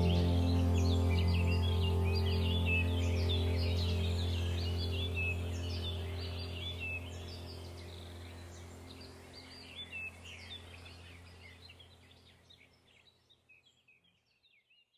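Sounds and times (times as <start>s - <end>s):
steady low hum: 0.0s - 12.8s
birds chirping: 0.0s - 14.9s.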